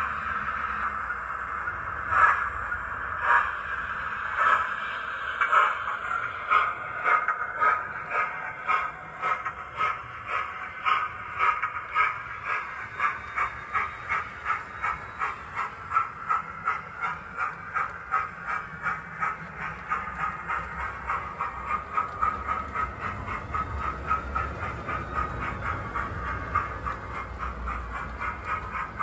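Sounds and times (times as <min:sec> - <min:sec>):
model train locomotive sound: 0:00.0 - 0:29.0.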